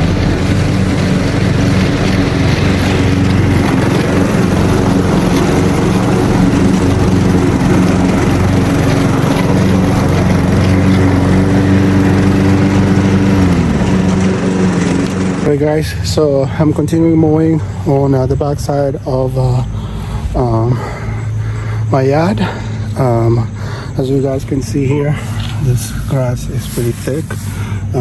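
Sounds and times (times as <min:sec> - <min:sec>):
lawn mower engine cutting grass: 0:00.0 - 0:28.0.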